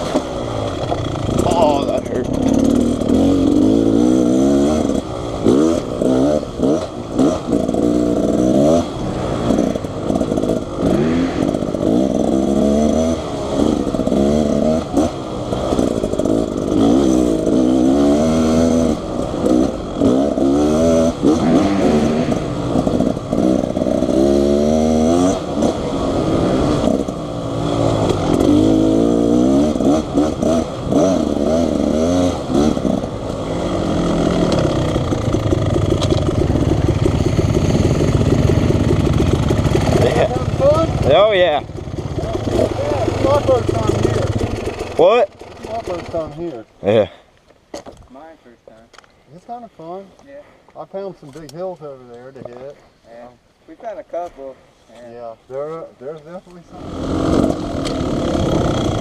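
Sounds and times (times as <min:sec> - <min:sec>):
dirt bike engine revving: 0:00.0 - 0:47.1, 0:56.3 - 0:59.0.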